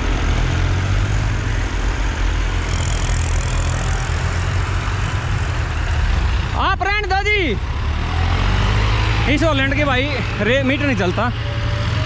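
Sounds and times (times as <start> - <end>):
tractor engines droning: 0.0 - 12.0.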